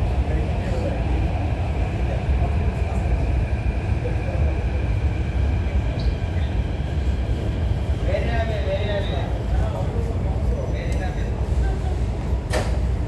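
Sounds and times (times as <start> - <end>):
metro train rumbling: 0.0 - 13.0.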